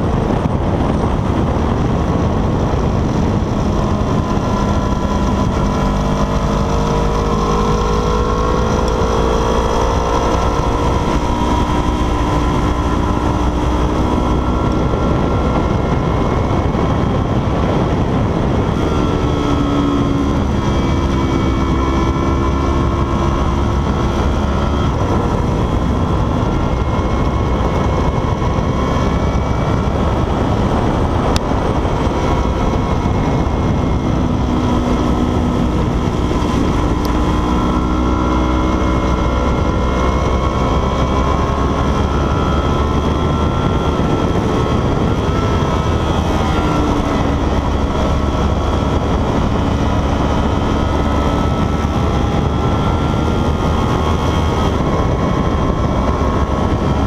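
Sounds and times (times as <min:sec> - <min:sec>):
motorcycle engine revving: 0:00.0 - 0:57.0
wind buffeting microphone: 0:00.0 - 0:57.0.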